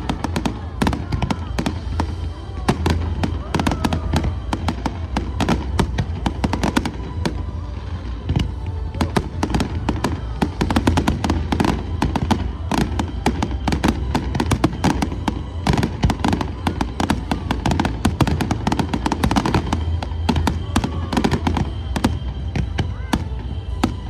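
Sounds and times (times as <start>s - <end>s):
fireworks bangs and cracks: 0.0s - 24.0s.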